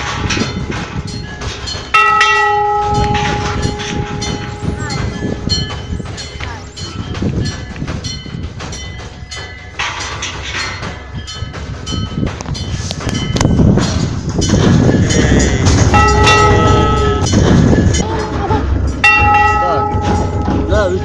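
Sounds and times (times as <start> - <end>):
metal temple bell ringing: 0.0 - 13.6, 15.0 - 18.1, 19.0 - 21.0
low rumbling noise: 0.0 - 21.0.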